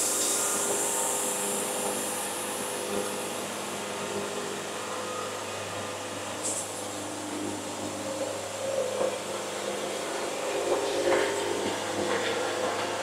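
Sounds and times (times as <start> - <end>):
band sawmill humming and whirring: 0.0 - 13.0.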